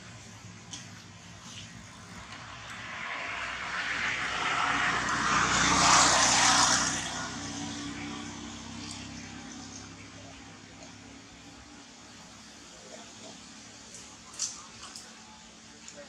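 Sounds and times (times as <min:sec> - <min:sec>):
aircraft passing overhead: 0:01.7 - 0:15.7.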